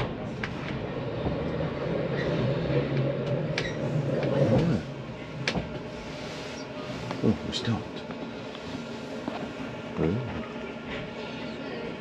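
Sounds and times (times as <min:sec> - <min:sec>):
railway carriage rumble: 0:00.0 - 0:12.0.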